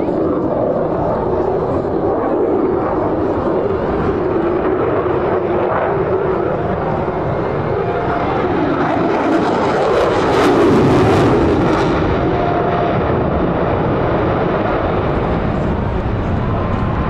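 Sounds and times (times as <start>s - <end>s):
jet engine rumble with crackle: 0.0s - 17.0s.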